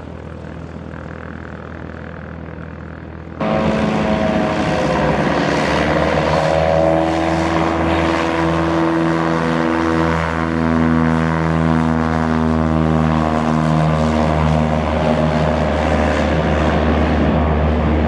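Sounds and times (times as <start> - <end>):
propeller airplane passing: 0.0 - 18.0.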